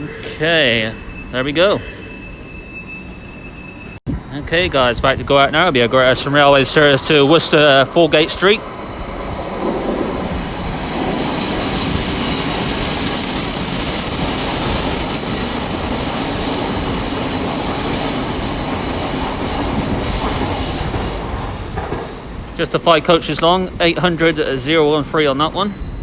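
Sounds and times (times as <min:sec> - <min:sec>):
high-pitched train squealing: 0:00.0 - 0:22.4, 0:25.2 - 0:26.0
train rumbling past: 0:00.0 - 0:26.0.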